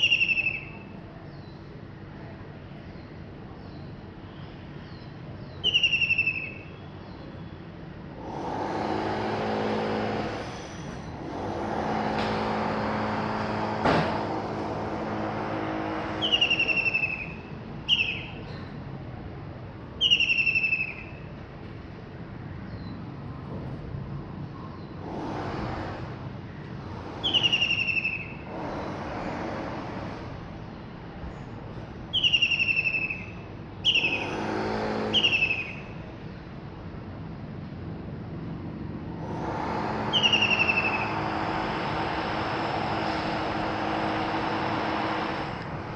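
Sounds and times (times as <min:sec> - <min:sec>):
road traffic passing: 0:00.0 - 0:45.9.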